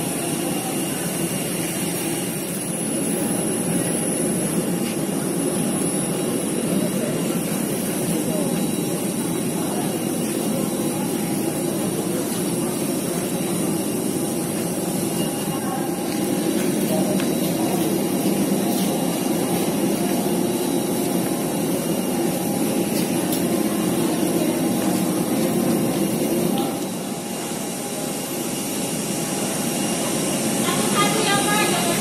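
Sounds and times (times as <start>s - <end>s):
faint high whining tones: 0.0s - 32.0s
jet engine drone: 0.0s - 32.0s.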